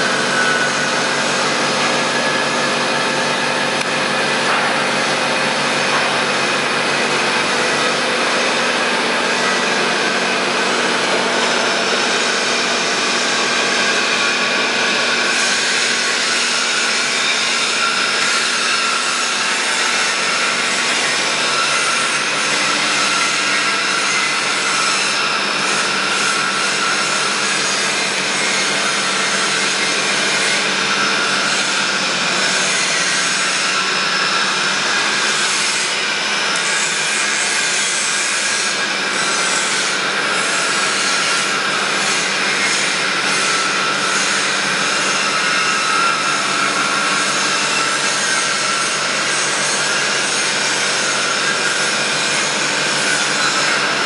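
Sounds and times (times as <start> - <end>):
boring machine running: 0.0 - 54.0.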